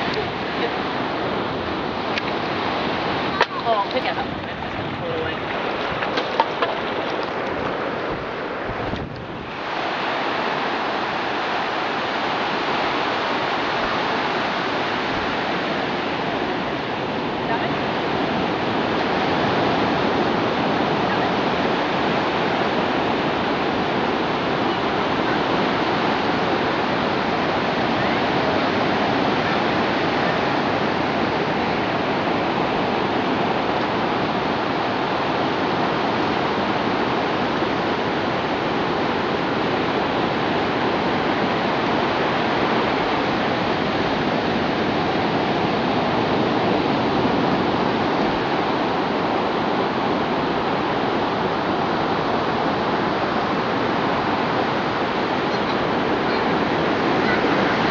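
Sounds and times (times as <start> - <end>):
ocean surf on beach: 0.0 - 57.9.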